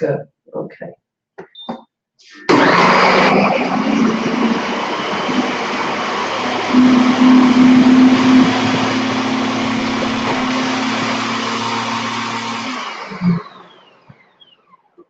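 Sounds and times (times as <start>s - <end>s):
blade spinning down whine: 2.5s - 14.8s
blender motor grinding: 2.5s - 15.0s.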